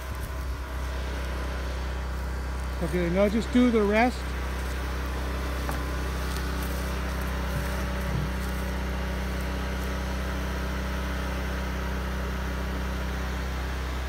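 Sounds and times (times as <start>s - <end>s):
generator and compressor hum: 0.0s - 14.0s.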